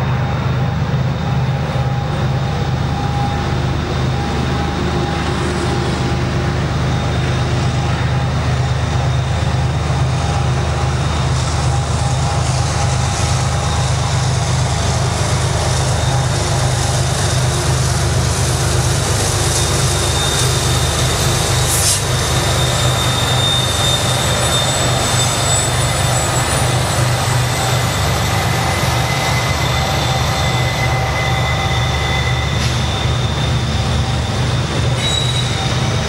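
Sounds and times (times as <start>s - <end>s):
diesel locomotive engine drone: 0.0s - 36.0s
wheels rumbling on rail: 0.0s - 36.0s.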